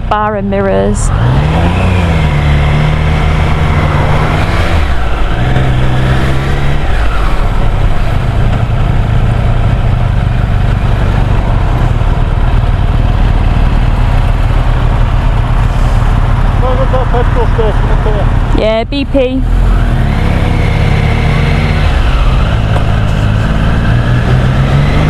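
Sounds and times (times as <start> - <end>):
motorcycle engine accelerating: 0.0 - 25.0
rushing wind noise: 1.0 - 18.6, 19.6 - 25.0.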